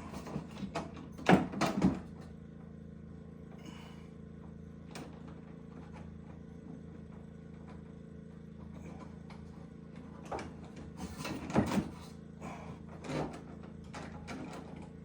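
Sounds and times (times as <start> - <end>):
steady low hum: 2.1 - 14.9.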